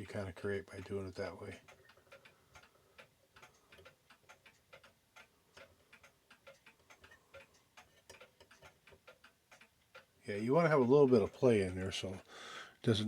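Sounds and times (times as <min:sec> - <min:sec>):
mechanical clock ticking: 0:00.0 - 0:13.0.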